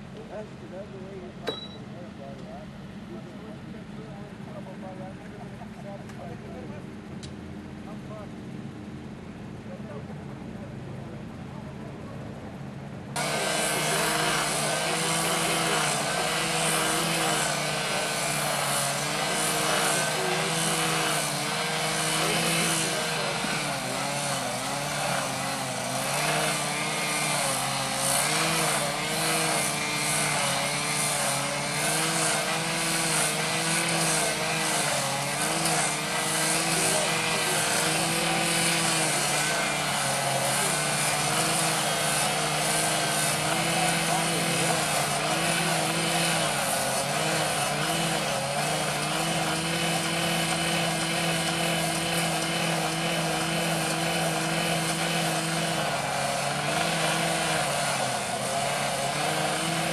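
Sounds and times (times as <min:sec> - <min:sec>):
heavy equipment humming: 0:00.0 - 0:59.9.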